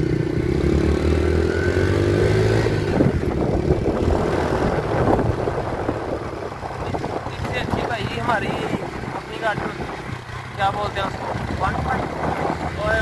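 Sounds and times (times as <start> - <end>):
road and wind noise: 0.0 - 13.0
vehicle engine accelerating: 0.0 - 13.0.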